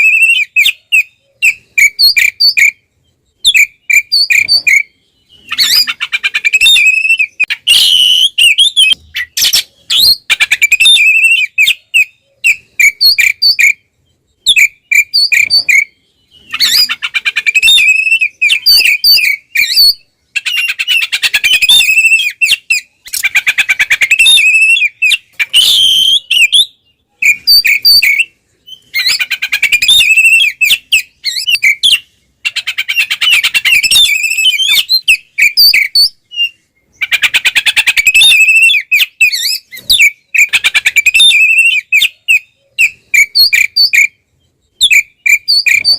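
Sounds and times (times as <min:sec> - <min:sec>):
magpie-robin singing: 0:00.0 - 0:45.9.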